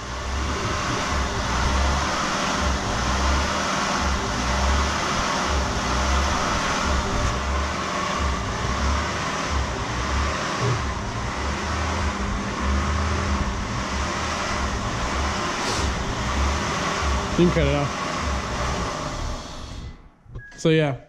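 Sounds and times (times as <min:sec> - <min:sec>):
car engine idling with hunting revs: 0:00.0 - 0:20.0.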